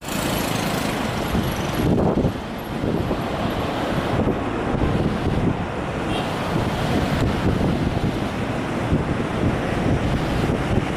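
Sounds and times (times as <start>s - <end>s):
wind buffeting microphone: 1.0s - 10.9s.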